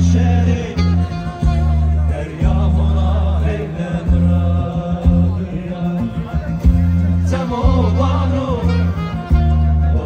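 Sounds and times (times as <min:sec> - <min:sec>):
music with heavy bass: 0:00.0 - 0:10.0.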